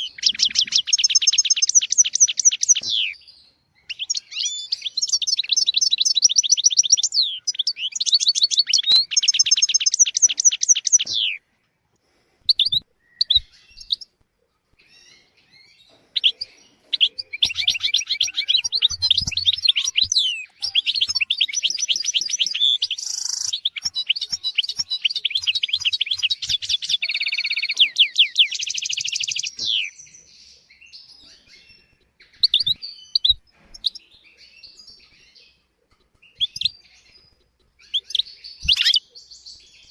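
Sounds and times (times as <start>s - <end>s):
goldfinch twittering song: 0.0s - 11.4s, 12.5s - 14.1s, 14.9s - 35.5s, 36.1s - 39.9s.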